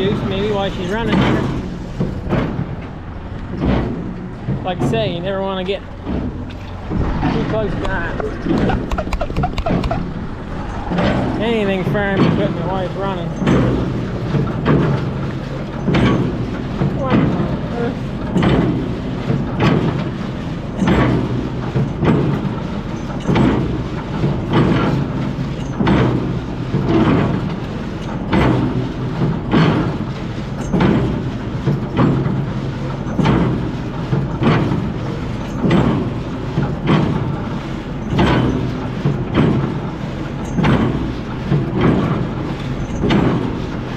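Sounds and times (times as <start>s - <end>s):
baler mechanism clanking: 0.0s - 43.9s
tractor engine hum: 0.0s - 43.9s.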